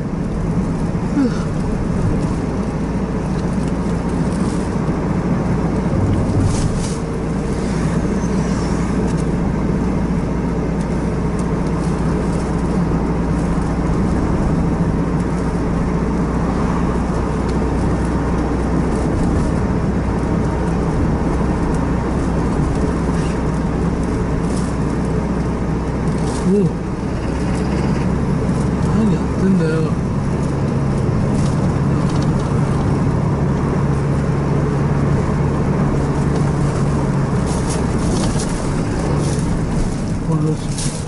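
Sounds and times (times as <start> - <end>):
car engine and tyre noise: 0.0 - 41.0.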